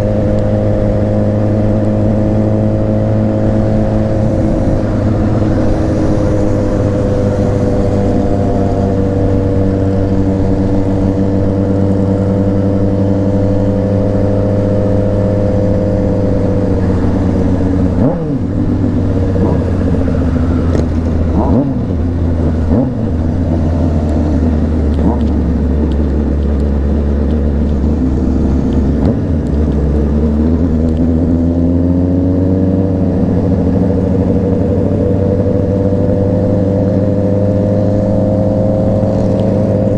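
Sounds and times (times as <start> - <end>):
motorcycle engine on the move: 0.0 - 39.9.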